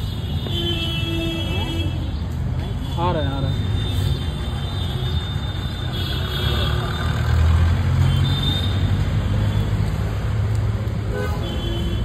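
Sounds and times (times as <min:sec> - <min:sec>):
vehicle engines humming: 0:01.4 - 0:12.0.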